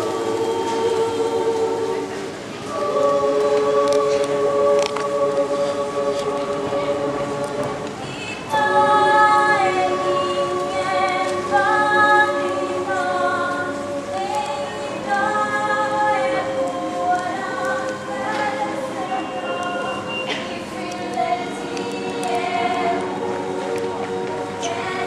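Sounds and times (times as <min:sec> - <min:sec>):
mixed choir singing a cappella: 0:00.0 - 0:25.0.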